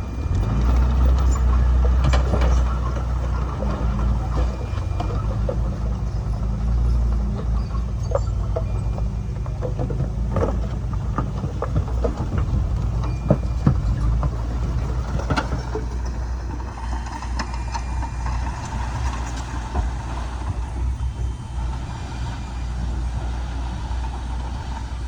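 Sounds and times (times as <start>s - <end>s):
bulldozer engine running: 0.0s - 25.0s
machine clanking and clicking: 0.2s - 21.1s.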